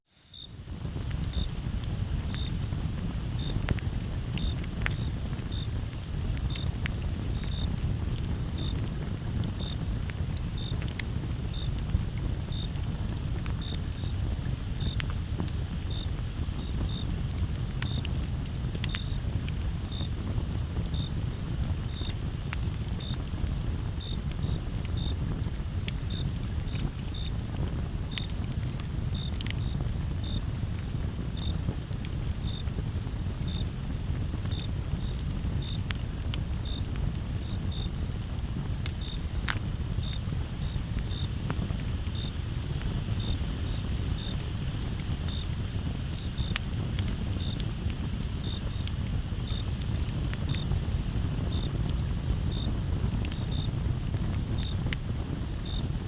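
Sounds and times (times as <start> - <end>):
crickets chirping: 0.1 - 56.0
campfire crackling: 0.2 - 56.0.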